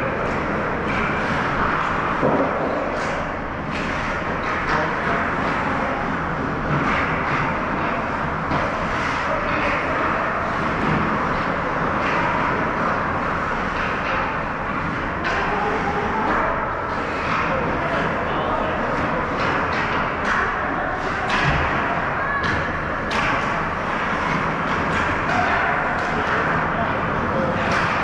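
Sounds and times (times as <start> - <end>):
skating rink din: 0.0 - 28.0
sticks and puck clacking: 0.0 - 28.0.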